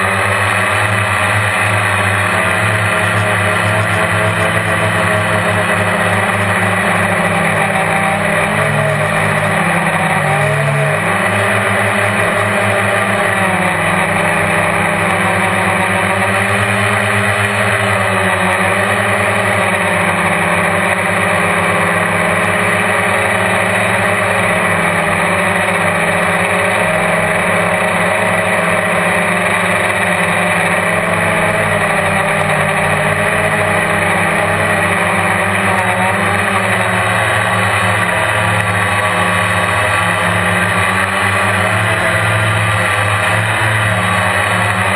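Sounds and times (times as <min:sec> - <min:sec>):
quadcopter motors whining: 0:00.0 - 0:44.9.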